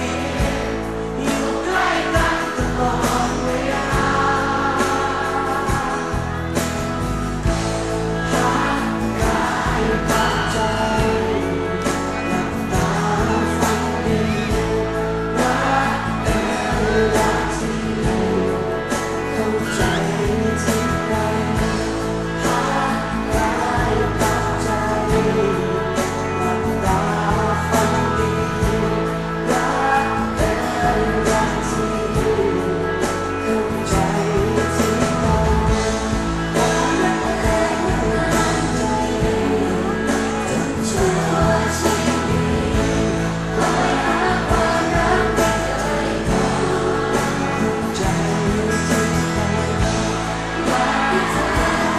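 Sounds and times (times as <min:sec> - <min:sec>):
live pop band: 0:00.0 - 0:51.9
people singing: 0:00.0 - 0:51.9.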